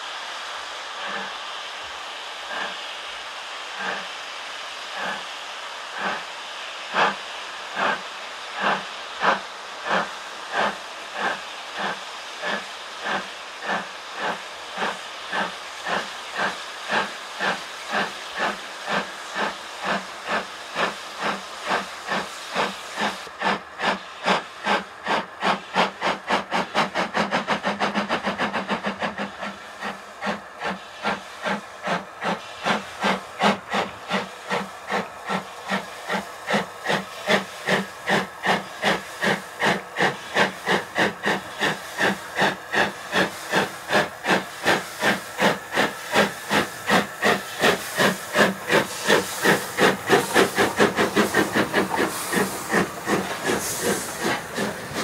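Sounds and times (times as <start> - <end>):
steam hiss: 0.0 - 55.0
steam locomotive chuffing: 0.0 - 55.0.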